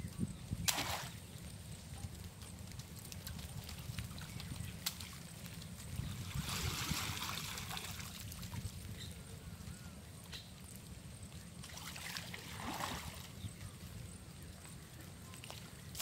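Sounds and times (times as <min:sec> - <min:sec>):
water trickling and splashing: 0:00.4 - 0:09.2, 0:10.6 - 0:16.0.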